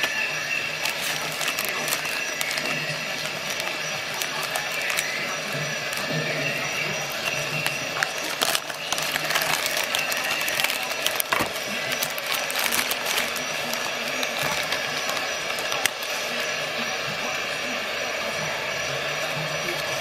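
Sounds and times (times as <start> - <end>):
plastic bag crinkling: 0.0 - 16.6.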